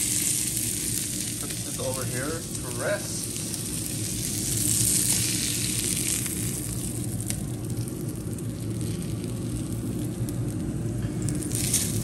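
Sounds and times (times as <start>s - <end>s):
hot fat sizzling in a pan: 0.0s - 12.0s.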